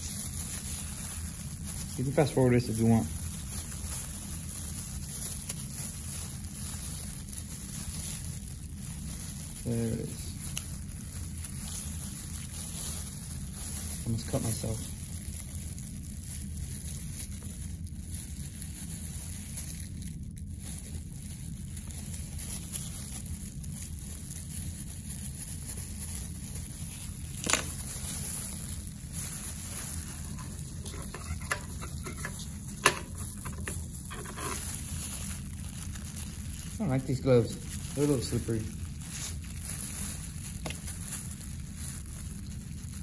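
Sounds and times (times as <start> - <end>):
low room hum: 0.0 - 43.0.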